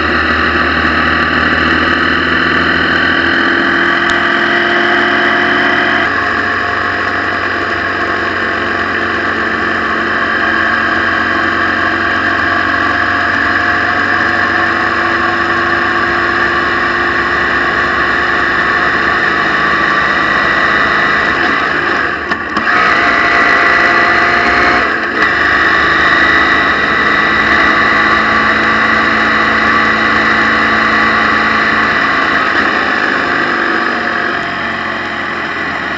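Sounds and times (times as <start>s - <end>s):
motorcycle engine running: 0.0s - 35.9s
road noise on wet road: 0.0s - 35.9s.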